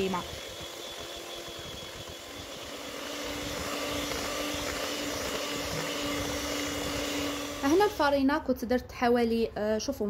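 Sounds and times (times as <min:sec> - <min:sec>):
electric hand mixer running: 0:00.0 - 0:08.2.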